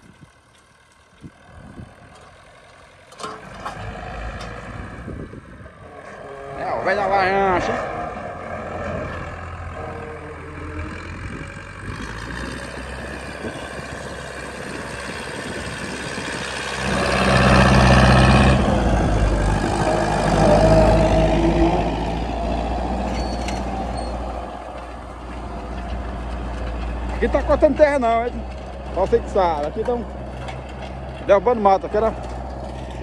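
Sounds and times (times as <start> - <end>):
tractor diesel engine under load: 0.0 - 33.0.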